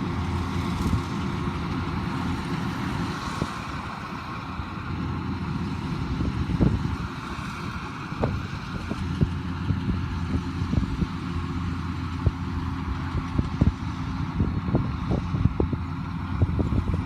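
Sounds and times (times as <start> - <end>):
farm machinery engine running: 0.0 - 17.0.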